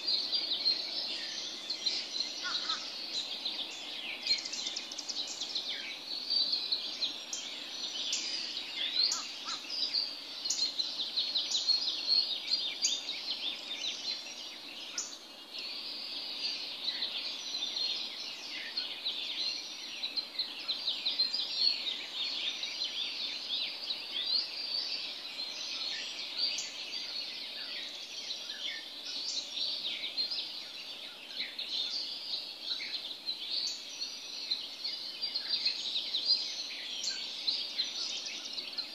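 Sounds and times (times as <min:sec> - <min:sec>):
birds chirping and whistling: 0:00.0 - 0:38.9.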